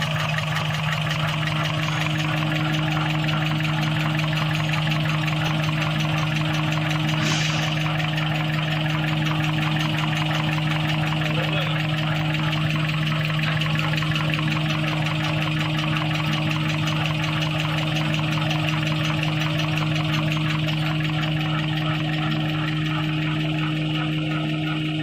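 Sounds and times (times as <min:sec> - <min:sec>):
machine mechanical hum: 0:00.7 - 0:25.0.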